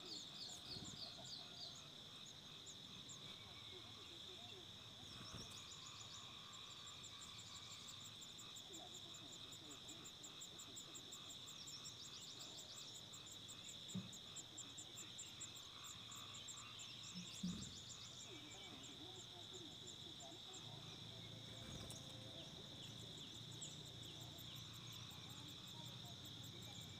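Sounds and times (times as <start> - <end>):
insect chorus: 0.0 - 26.9.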